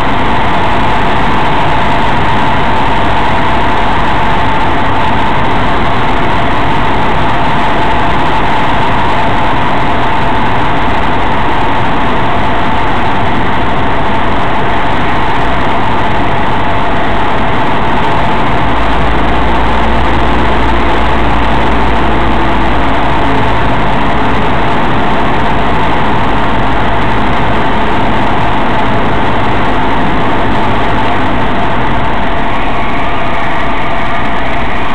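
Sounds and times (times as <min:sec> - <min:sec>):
airplane engine drone in cockpit: 0:00.0 - 0:34.9
deep low rumble: 0:00.0 - 0:34.9.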